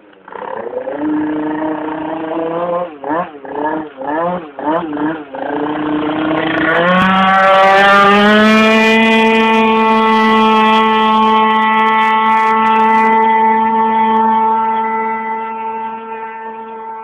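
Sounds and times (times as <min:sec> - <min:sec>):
scooter engine at full throttle: 0:00.0 - 0:17.0.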